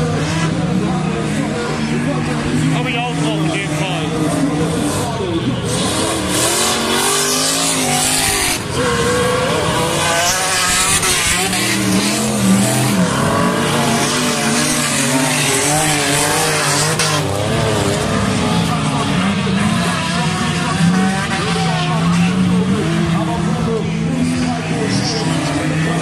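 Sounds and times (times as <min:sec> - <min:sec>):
race car engines: 0:00.0 - 0:26.0.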